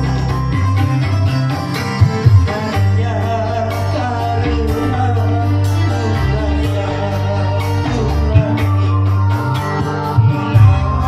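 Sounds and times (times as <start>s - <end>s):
bass line: 0.0s - 11.0s
keyboard accompaniment: 0.0s - 11.0s
man singing into microphone: 0.0s - 11.0s.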